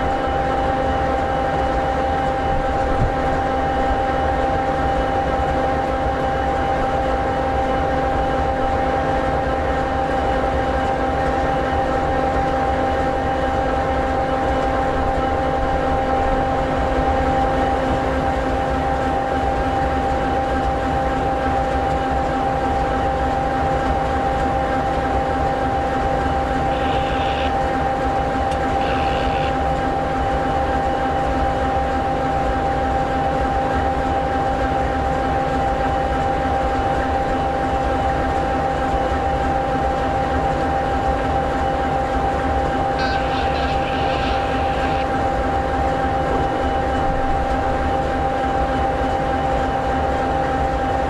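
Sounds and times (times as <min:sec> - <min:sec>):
diesel locomotive idling: 0:00.0 - 0:51.0.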